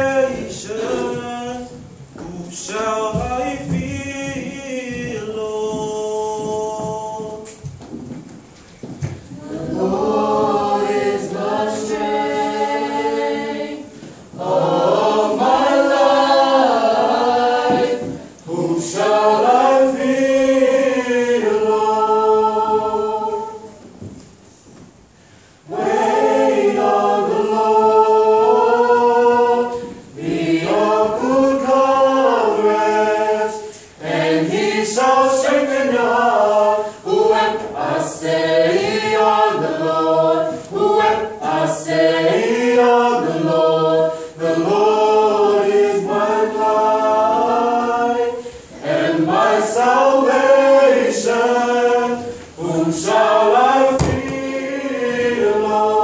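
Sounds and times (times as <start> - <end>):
choir singing a hymn a cappella: 0.0 - 7.8, 8.9 - 24.2, 25.2 - 56.0.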